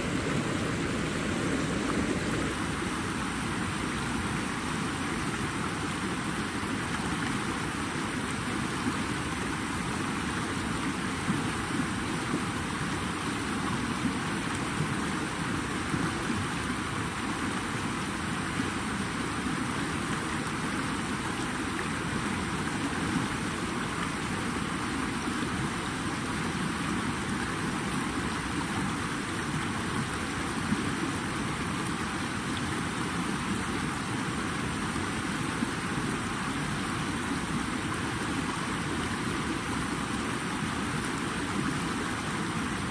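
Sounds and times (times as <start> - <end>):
water rushing: 0.0 - 42.9
water splashes: 0.0 - 42.9.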